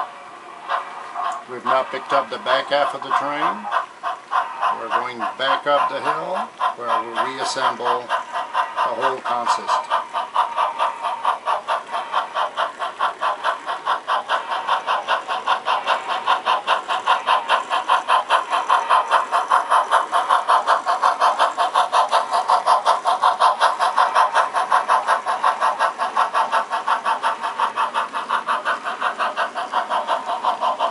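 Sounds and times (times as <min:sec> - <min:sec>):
model steam locomotive chuffing: 0:00.0 - 0:30.9.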